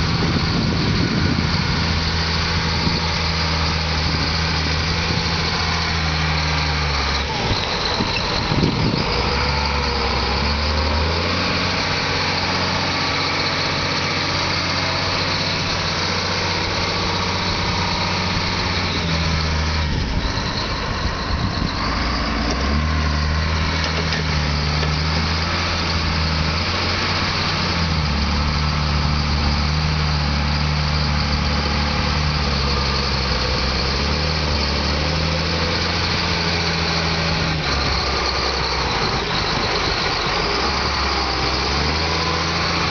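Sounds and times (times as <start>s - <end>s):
heavy machine engine droning: 0.0s - 42.9s.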